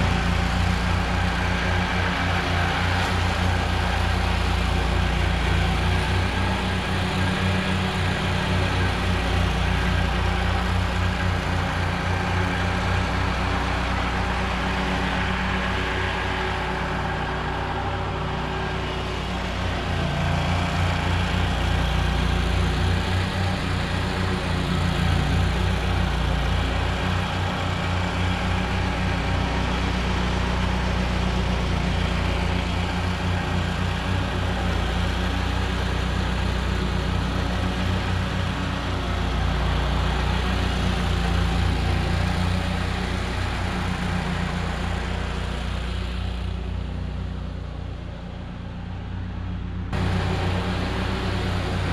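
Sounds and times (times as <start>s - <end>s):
engine drone: 0.0s - 51.9s.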